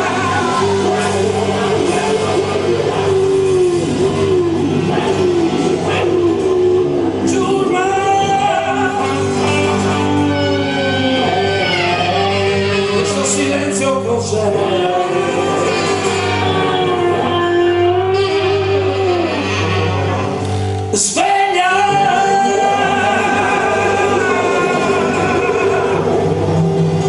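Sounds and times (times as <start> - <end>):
bass line: 0.0 - 27.0
drums: 0.0 - 27.0
electric guitar: 0.0 - 27.0
man singing long notes: 0.0 - 27.0.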